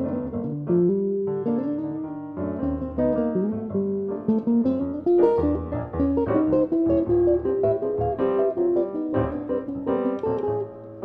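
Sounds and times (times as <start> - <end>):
jazz guitar: 0.0 - 11.0
piano: 0.0 - 11.0.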